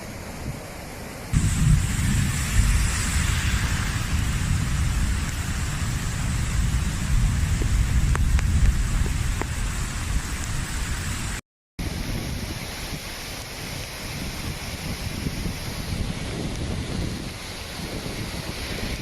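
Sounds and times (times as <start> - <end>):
floodwater rushing and splashing: 0.0 - 19.0
wind buffeting microphone: 1.3 - 19.0.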